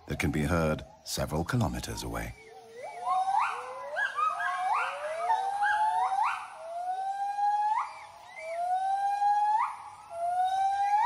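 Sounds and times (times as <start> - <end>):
gibbons hooting: 0.0 - 11.0.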